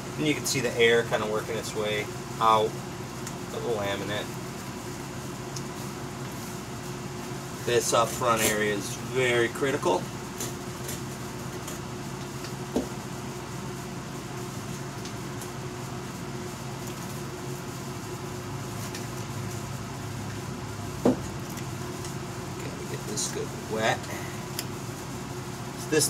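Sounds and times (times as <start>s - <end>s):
fan humming: 0.0s - 26.0s.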